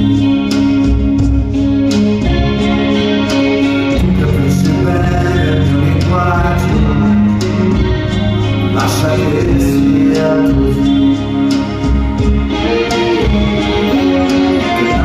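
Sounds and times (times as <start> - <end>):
bass line: 0.0 - 15.0
electric guitar solo: 0.0 - 15.0.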